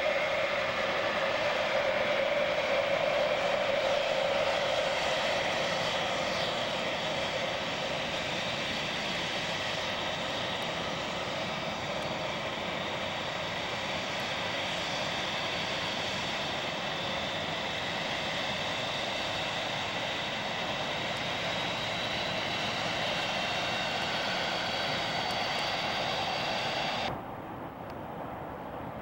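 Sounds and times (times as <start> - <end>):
jet engines roaring and whining: 0.0 - 29.0.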